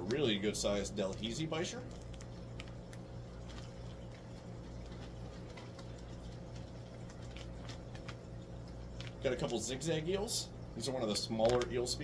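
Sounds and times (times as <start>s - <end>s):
faint handling clicks and taps: 0.0s - 9.9s, 10.8s - 12.0s.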